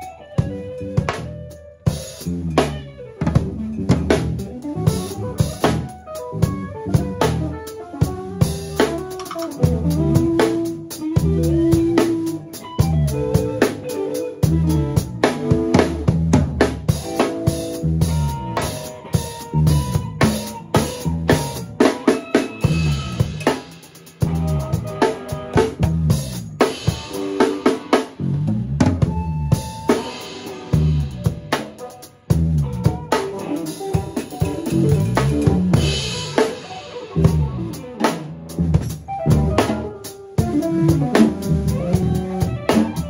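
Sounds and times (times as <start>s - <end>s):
electric bass line: 0.0s - 22.0s, 22.6s - 43.0s
drum kit beat: 0.0s - 43.0s.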